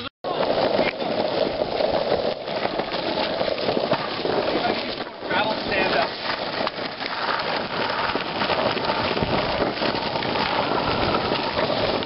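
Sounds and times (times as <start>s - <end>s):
longboard wheels rolling on asphalt: 0.0s - 12.0s.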